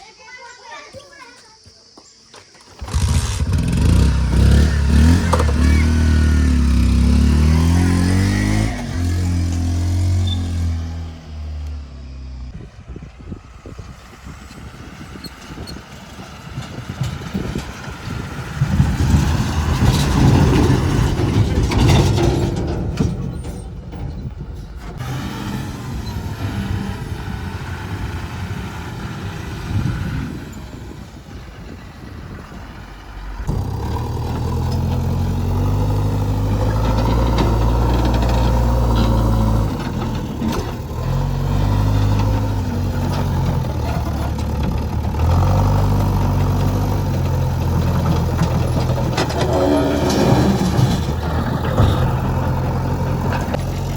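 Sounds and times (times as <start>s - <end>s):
diesel engines revving: 2.8s - 53.9s.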